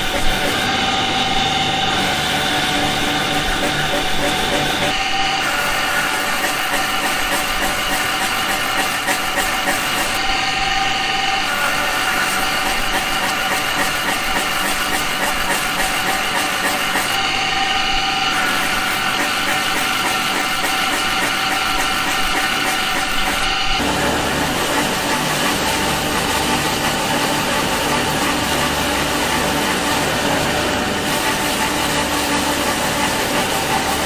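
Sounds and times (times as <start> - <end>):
electric motor whine: 0.0 - 34.0.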